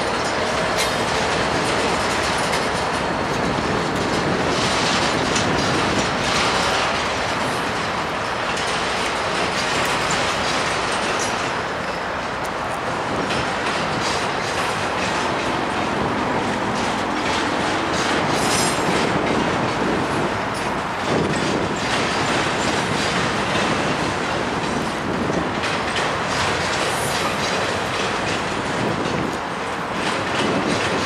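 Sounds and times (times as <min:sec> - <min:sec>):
steel wheels on rails: 0:00.0 - 0:31.0.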